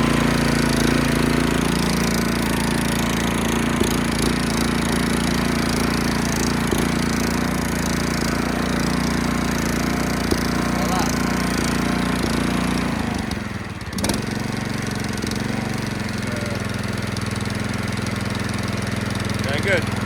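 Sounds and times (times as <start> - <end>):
ride-on mower engine running: 0.0 - 20.0.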